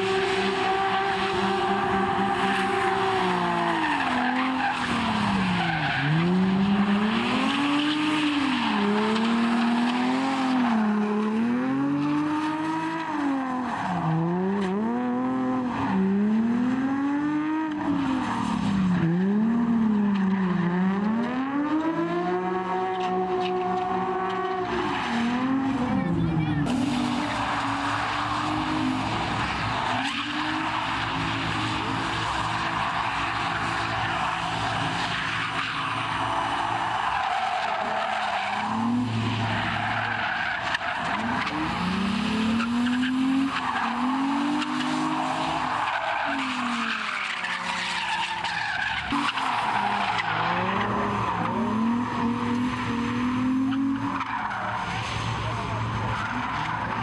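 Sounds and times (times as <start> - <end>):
car engines revving: 0.0 - 57.0
tires skidding and squealing: 0.0 - 57.0.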